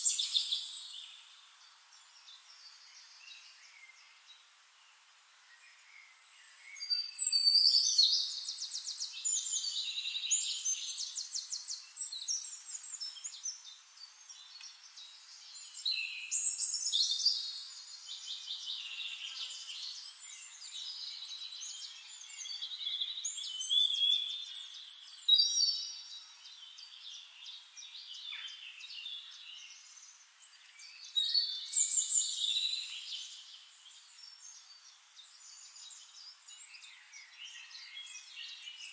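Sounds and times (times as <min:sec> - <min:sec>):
songbird trilling and chirping: 0:00.0 - 0:04.2, 0:06.5 - 0:38.9.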